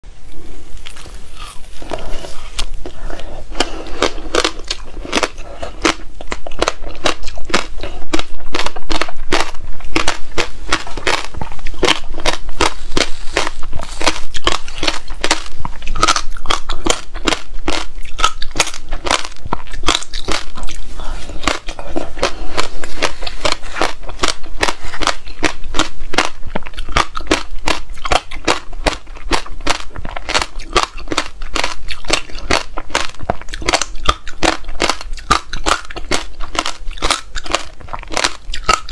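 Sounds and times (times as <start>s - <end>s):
crunchy chewing: 0.3s - 38.9s.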